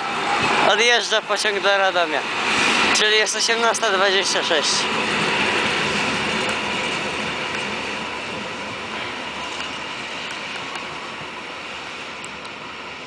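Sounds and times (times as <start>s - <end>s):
passenger train pulling away: 0.0s - 13.0s.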